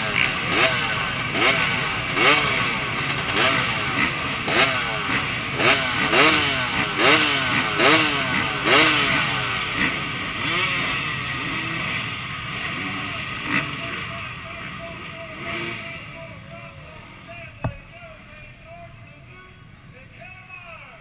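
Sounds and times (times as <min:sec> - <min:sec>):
dirt bike engines revving: 0:00.0 - 0:20.3.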